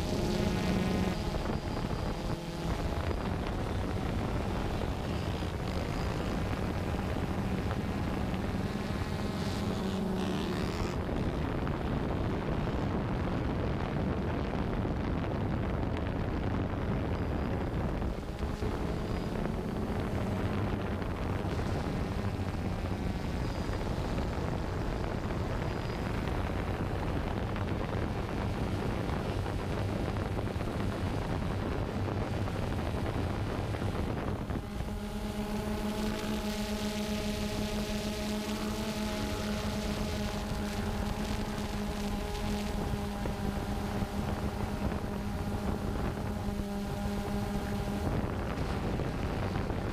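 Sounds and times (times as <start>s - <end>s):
drone propellers humming: 0.0s - 49.9s
wind noise on microphone: 0.0s - 49.9s.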